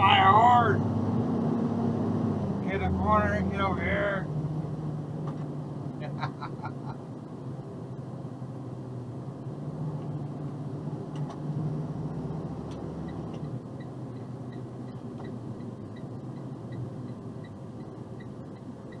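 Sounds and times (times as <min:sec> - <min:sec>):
truck engine and road hum: 0:00.0 - 0:19.0.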